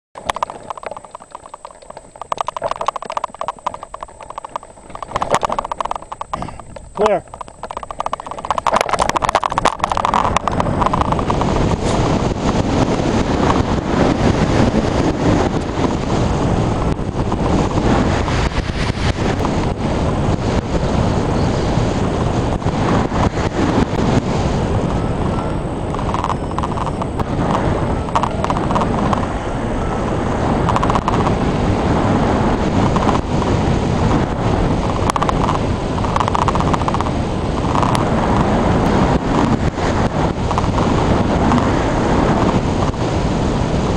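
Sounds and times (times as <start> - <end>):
wind buffeting microphone: 0.2 - 43.9.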